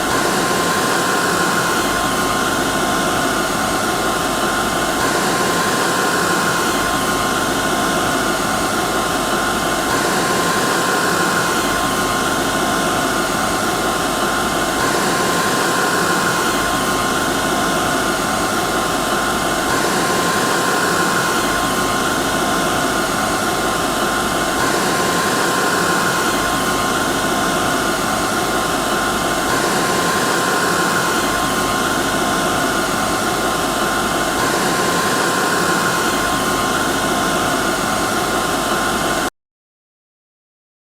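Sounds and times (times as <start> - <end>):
hair dryer running: 0.0 - 39.3.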